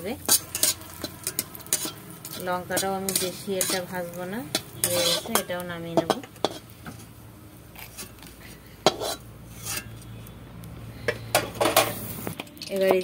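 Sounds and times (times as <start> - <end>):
metal spatula scraping a pan: 0.0 - 10.2, 11.0 - 13.0.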